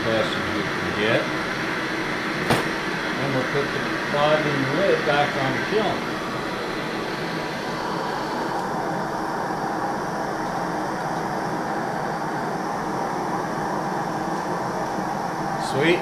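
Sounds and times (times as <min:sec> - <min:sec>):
torches burning with rushing hiss: 0:00.0 - 0:16.0.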